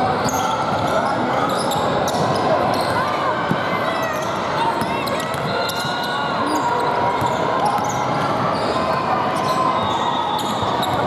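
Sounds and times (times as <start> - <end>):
chatter of people: 0.0 - 11.0.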